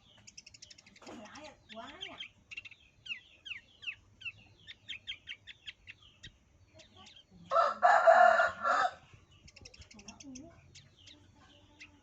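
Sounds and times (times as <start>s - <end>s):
bush lark chirping: 0.0s - 7.5s, 8.7s - 12.0s.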